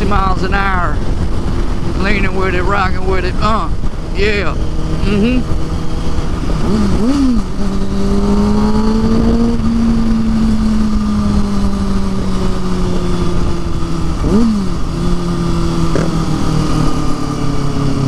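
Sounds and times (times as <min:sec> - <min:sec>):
motorcycle engine running: 0:00.0 - 0:18.0
wind noise rumble: 0:00.0 - 0:18.0.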